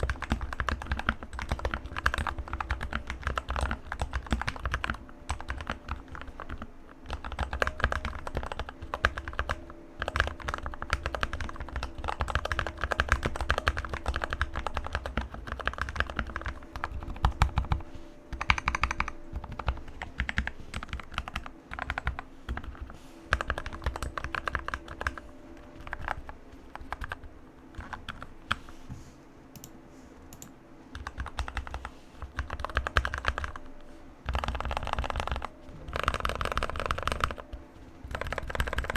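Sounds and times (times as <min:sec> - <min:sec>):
mechanical keyboard typing: 0:00.0 - 0:28.6, 0:30.3 - 0:38.9.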